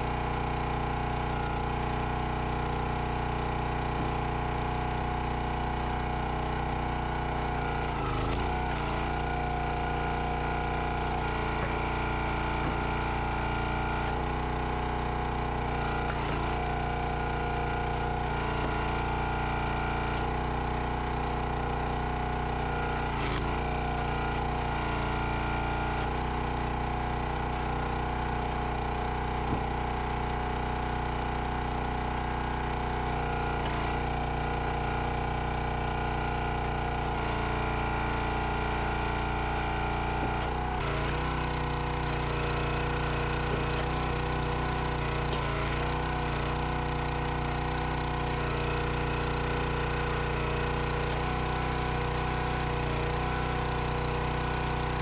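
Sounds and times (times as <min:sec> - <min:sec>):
gas engine running: 0:00.0 - 0:55.0.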